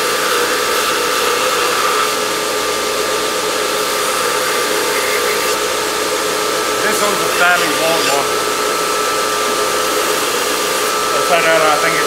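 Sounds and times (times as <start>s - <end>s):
belt grinder grinding steel: 0.0s - 12.0s.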